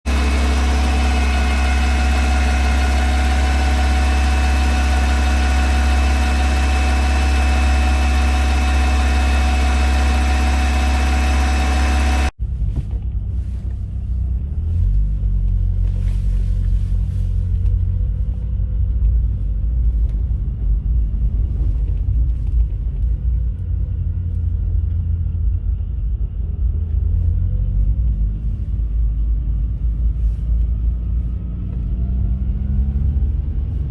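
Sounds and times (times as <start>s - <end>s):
car engine whine: 0.0s - 33.9s
low engine drone: 0.0s - 33.9s
unsteady engine rumble: 0.0s - 33.9s.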